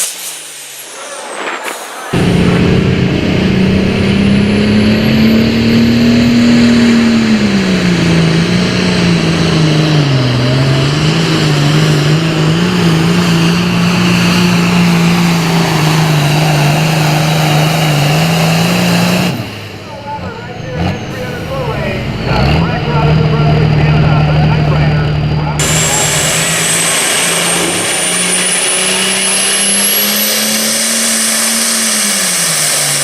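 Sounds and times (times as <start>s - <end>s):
diesel tractor engine under load: 1.7s - 33.0s.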